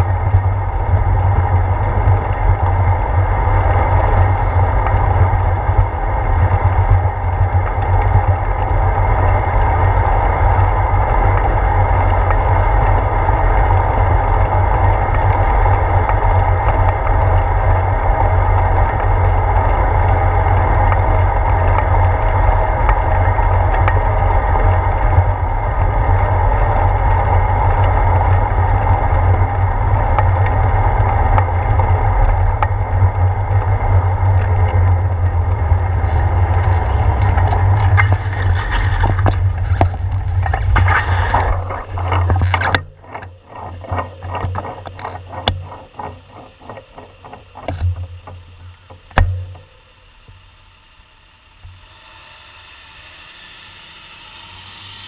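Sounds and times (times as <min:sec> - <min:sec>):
bicycle road rumble on wet road: 0:00.0 - 0:53.3.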